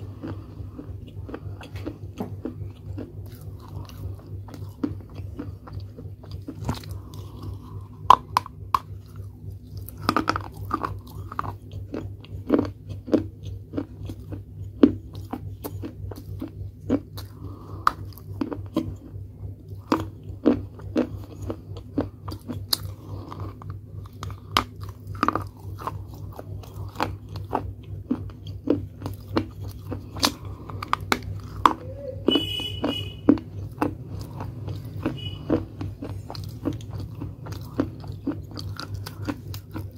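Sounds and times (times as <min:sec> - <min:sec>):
crunching and chewing: 0:00.0 - 0:39.9
steady low hum: 0:00.0 - 0:39.9.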